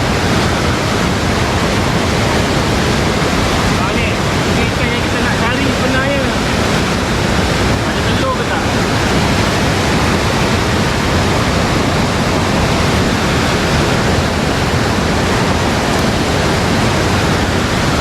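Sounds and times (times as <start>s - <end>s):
rush of fast-flowing water: 0.0s - 18.0s.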